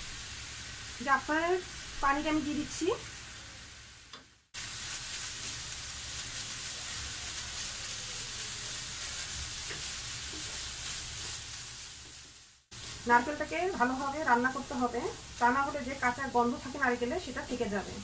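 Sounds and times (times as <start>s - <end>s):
coconut sizzling in a frying pan: 0.0s - 18.0s.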